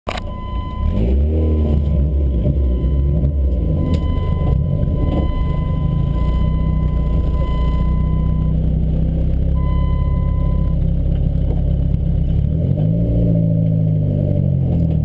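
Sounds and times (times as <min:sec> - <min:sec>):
car engine revving and idling: 0:00.1 - 0:15.0.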